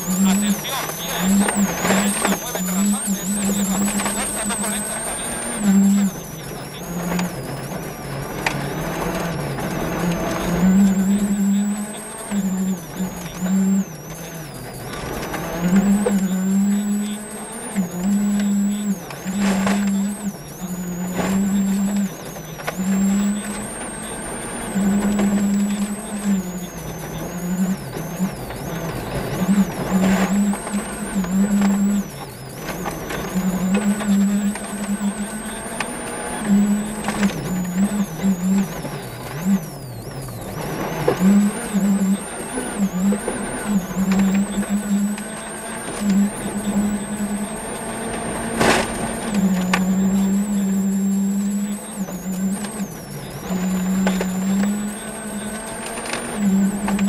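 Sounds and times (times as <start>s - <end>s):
gravel rattling against car: 0.0s - 57.0s
high whine: 0.0s - 57.0s
rally car engine at high revs: 0.0s - 57.0s.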